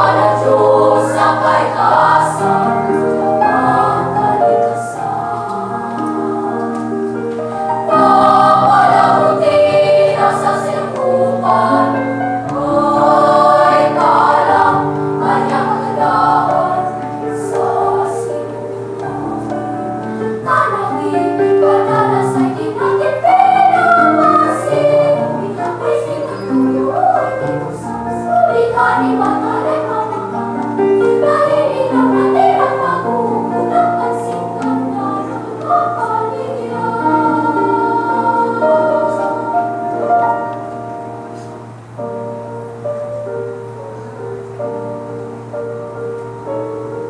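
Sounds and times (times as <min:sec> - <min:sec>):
children's choir singing: 0:00.0 - 0:42.8.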